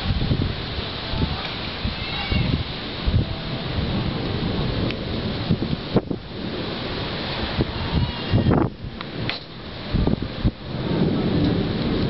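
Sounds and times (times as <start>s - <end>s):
low thunder rumble: 0.0s - 12.0s
rain and wind hiss: 0.0s - 12.0s.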